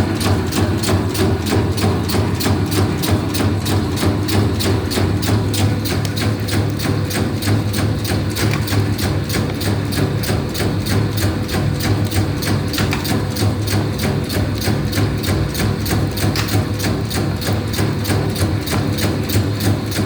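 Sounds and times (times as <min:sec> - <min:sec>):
machine motor humming: 0:00.0 - 0:20.0
rapid machine clacking: 0:00.0 - 0:20.0.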